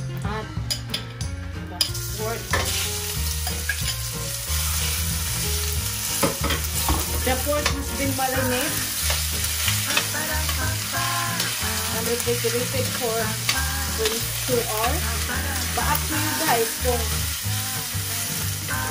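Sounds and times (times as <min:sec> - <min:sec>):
meat sizzling in a pan: 0:01.8 - 0:18.9.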